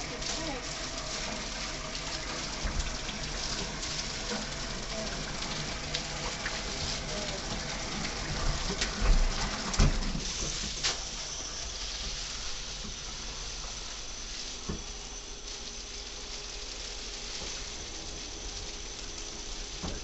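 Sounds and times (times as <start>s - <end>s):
shower water hissing: 0.0s - 20.0s.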